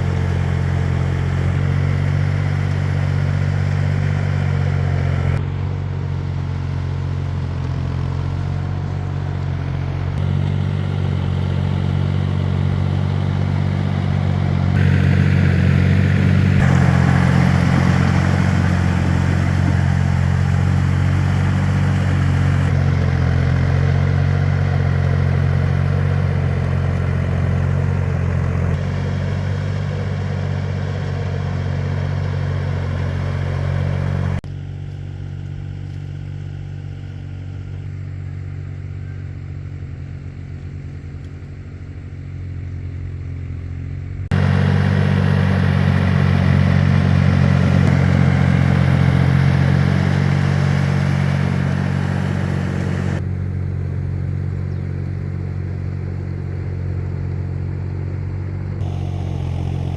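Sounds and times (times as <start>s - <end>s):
small tractor engine running: 0.0s - 59.9s.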